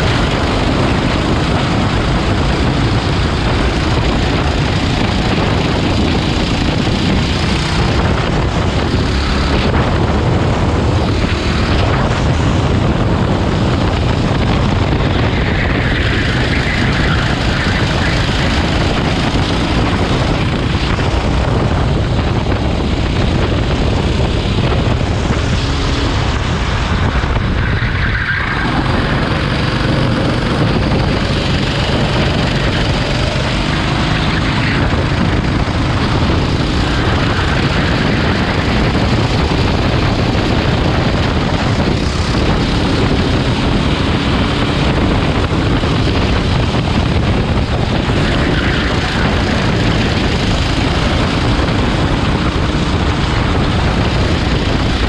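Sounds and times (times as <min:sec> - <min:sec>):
go-kart engine revving: 0:00.0 - 0:55.0
heavy rushing noise: 0:00.0 - 0:55.0.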